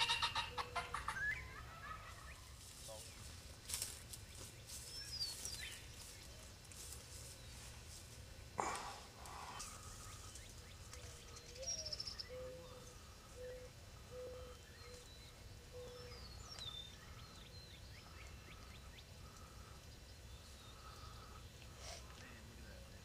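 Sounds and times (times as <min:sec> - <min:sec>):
low evenly spaced bird notes: 0:00.0 - 0:23.0.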